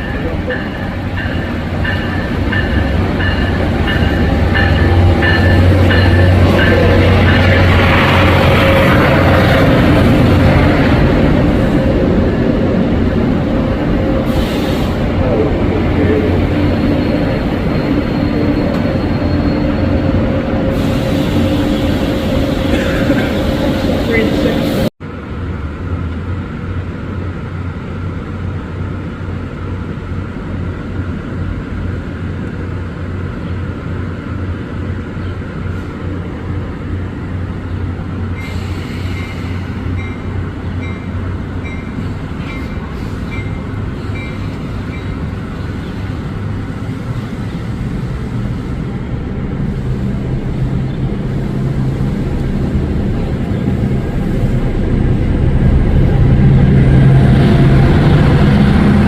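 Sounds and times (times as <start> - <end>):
train low rumble: 0.0 - 59.0.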